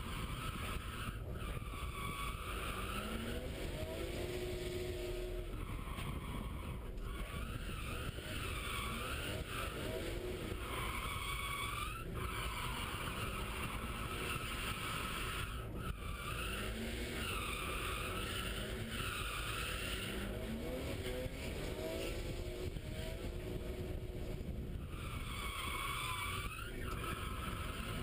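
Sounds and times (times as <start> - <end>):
car engine revving: 0.1 - 28.0.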